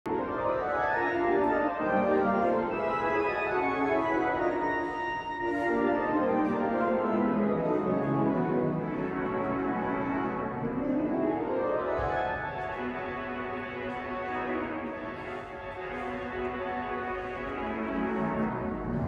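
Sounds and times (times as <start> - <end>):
pipe organ sustained chords: 0.1 - 19.0.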